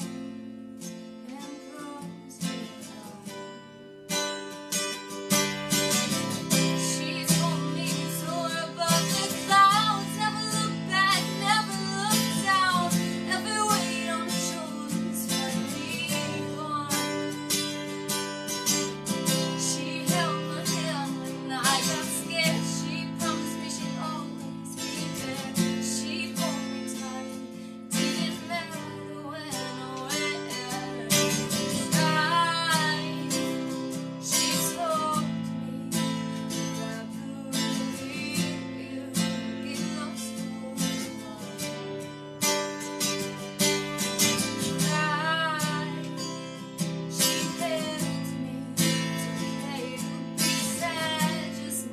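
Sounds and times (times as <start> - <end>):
strummed acoustic guitar: 0.0 - 51.9
woman singing: 0.0 - 51.9.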